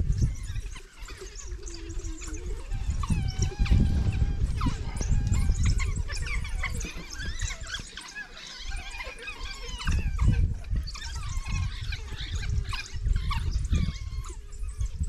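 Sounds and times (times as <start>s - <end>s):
wild dogs chirping and squealing: 0.0s - 15.0s.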